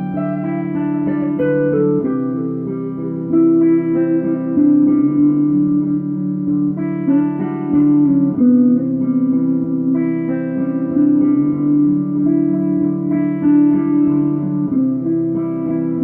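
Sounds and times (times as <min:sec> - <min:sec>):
plucked guitar notes and chords: 0:00.0 - 0:16.0.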